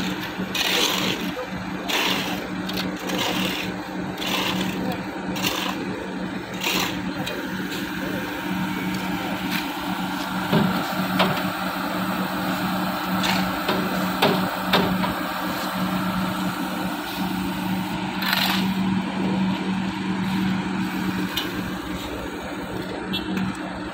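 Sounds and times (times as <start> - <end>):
engine humming: 0.0 - 23.9
noisy rumble: 0.0 - 23.9.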